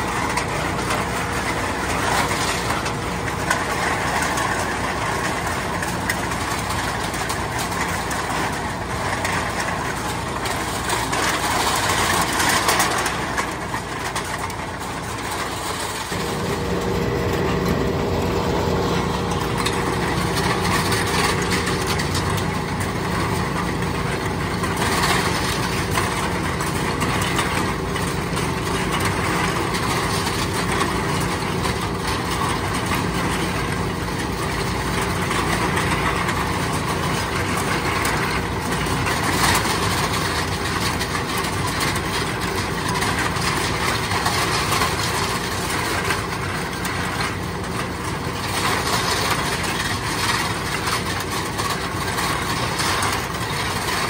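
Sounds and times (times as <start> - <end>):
can crusher motor hum: 0.0 - 53.9.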